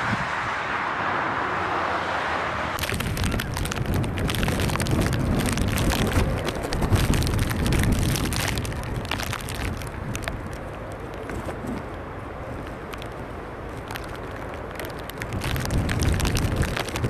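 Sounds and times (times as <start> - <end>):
wind buffeting microphone: 2.6 - 17.0
dense crackling: 2.7 - 17.0.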